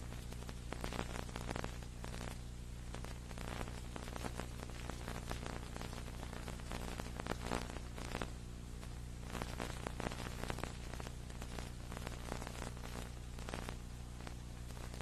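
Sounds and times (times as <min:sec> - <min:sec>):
crackling static and hiss: 0:00.0 - 0:15.0
steady low hum: 0:00.0 - 0:15.0.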